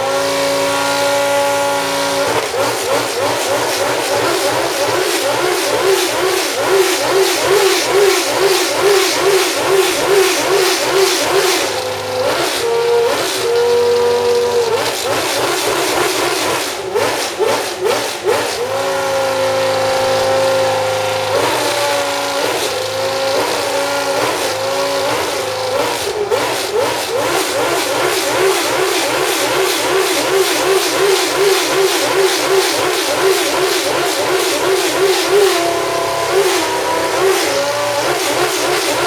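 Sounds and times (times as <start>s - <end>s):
racing engine revving: 0.0s - 39.0s.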